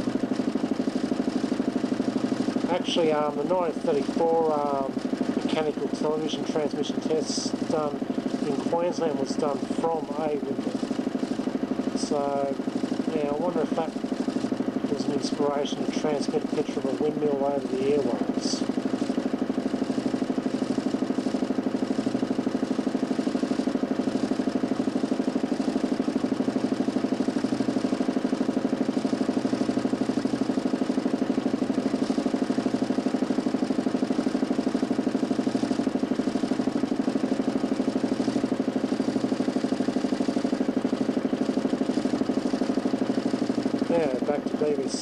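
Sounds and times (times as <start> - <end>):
motor spinning disc pulsing drone: 0.0 - 45.0.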